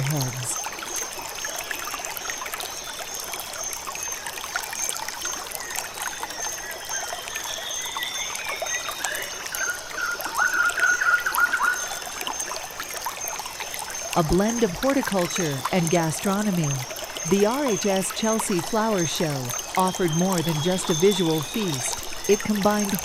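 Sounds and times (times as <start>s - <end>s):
water trickling: 0.0s - 23.0s.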